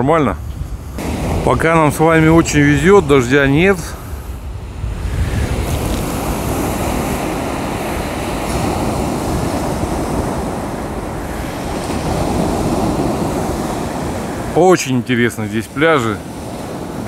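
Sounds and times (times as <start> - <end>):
wind rumbling on microphone: 0.0 - 14.6, 15.8 - 17.0
surf washing onto beach: 0.4 - 17.0.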